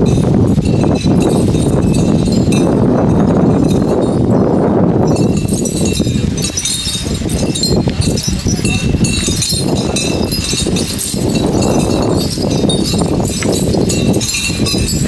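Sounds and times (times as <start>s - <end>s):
metal chains clinking: 0.0s - 15.0s.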